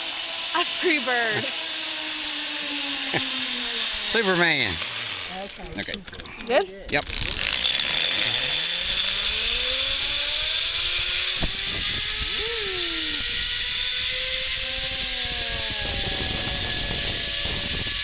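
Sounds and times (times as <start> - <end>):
zip-line pulleys on cable: 0.0 - 18.0.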